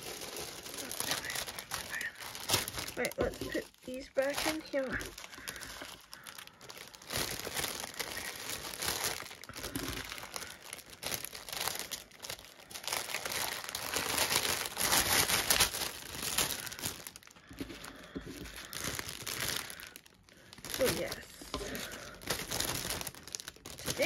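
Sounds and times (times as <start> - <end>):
plastic bags crinkling: 0.0 - 24.0.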